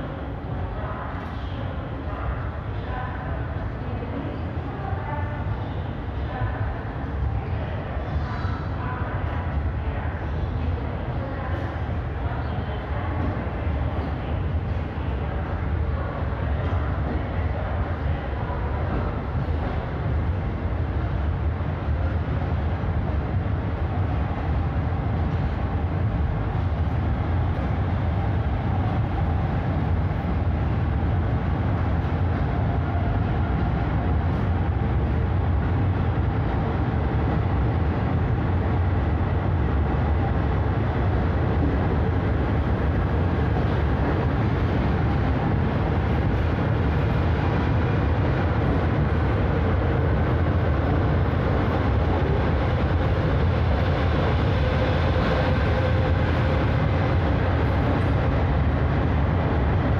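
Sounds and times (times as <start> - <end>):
train rolling past: 0.0 - 59.9.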